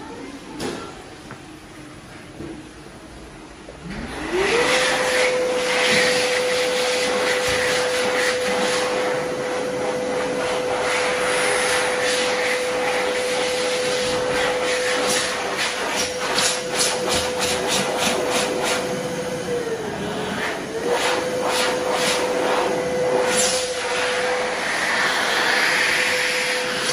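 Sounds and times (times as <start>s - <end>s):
hand dryer motor whine: 3.8s - 26.9s
rush of blowing air: 4.1s - 26.9s.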